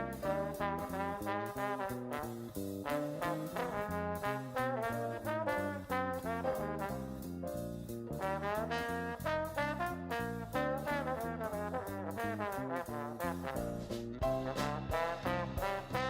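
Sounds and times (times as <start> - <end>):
upbeat swing music with brass: 0.0 - 16.0.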